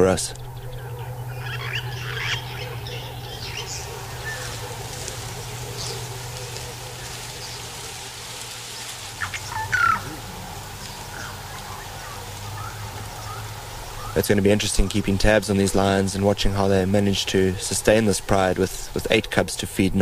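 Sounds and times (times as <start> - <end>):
steady low hum: 0.0 - 20.0
wild birds chirping: 0.0 - 20.0.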